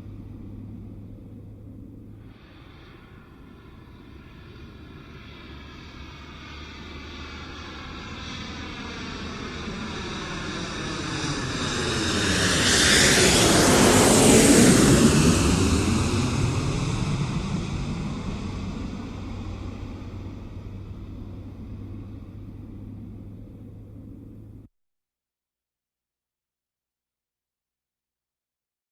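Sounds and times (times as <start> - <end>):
jet aircraft roaring overhead: 0.0 - 24.7.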